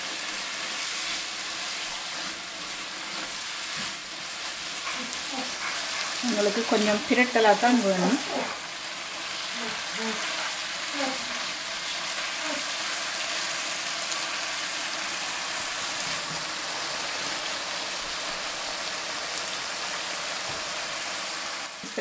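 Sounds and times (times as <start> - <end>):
curry sizzling in a pan: 0.0 - 22.0.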